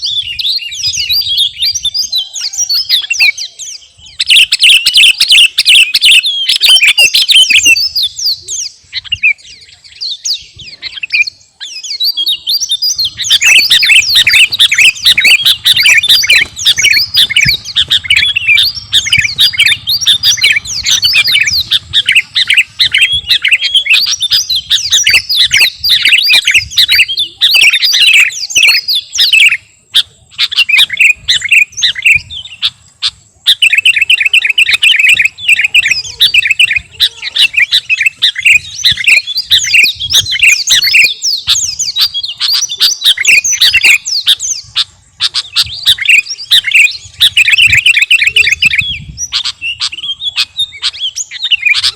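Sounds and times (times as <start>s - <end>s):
bulbul singing rapid chirps: 0.0s - 51.9s.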